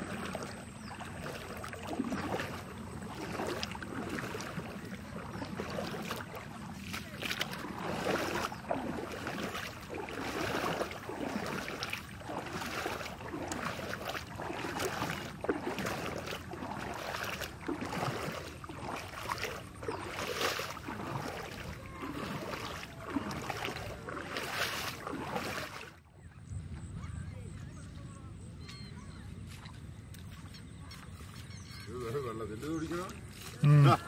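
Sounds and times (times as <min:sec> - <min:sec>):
water splashing and sloshing: 0:00.0 - 0:34.0.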